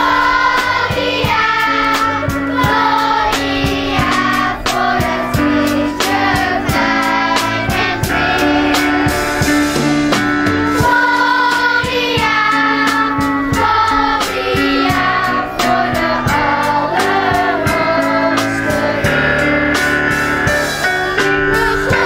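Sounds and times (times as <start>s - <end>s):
children's choir singing: 0.0s - 22.0s
instrumental accompaniment: 0.0s - 22.0s
steady beat: 0.0s - 22.0s.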